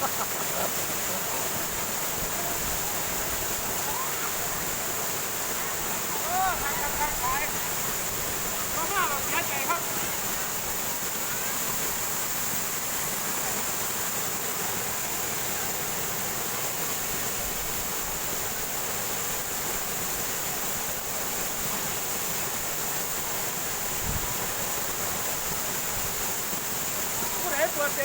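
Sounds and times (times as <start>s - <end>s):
waterfall rushing over rock: 0.0s - 28.0s.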